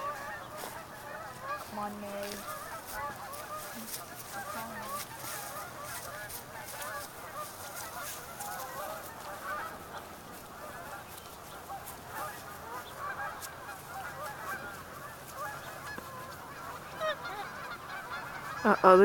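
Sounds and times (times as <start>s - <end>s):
waterfowl honking: 0.0s - 19.0s.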